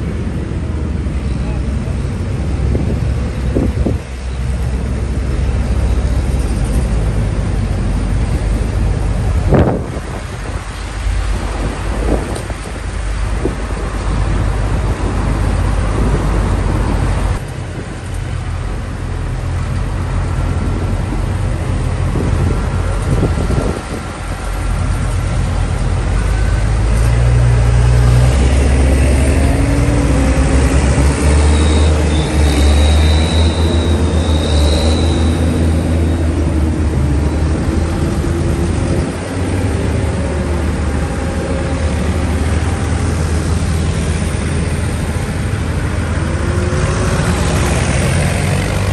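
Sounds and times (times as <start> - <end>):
tractor engines passing by: 0.0 - 48.9.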